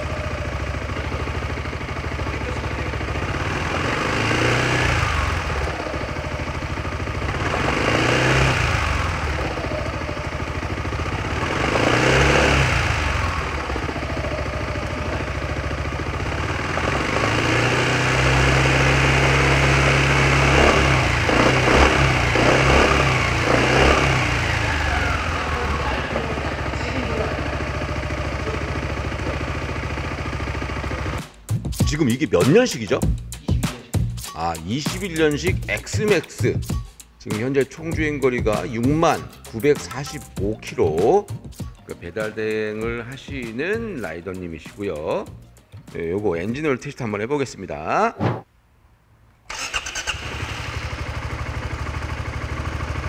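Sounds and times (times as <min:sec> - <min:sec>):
scooter engine idling and revving: 0:00.0 - 0:45.6, 0:49.5 - 0:53.0.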